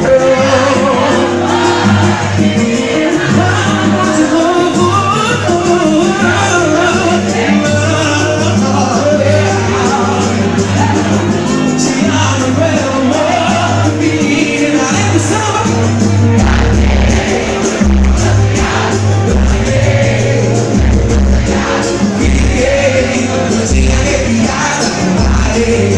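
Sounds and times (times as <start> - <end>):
bass line: 0.0 - 25.9
person singing: 0.0 - 25.9
samba band playing: 0.0 - 25.9.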